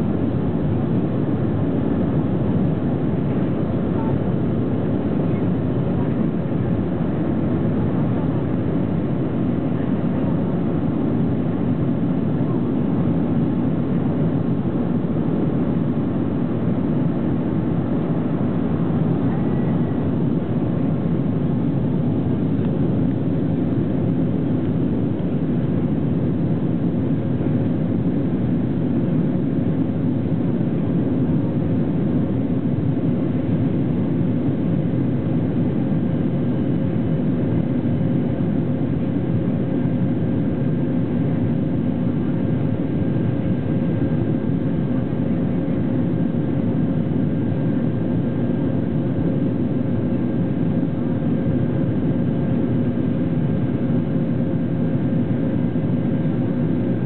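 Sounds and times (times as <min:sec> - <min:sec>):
faint steady hum: 0:00.0 - 0:57.0
jet engine rumble in cabin: 0:00.0 - 0:57.0.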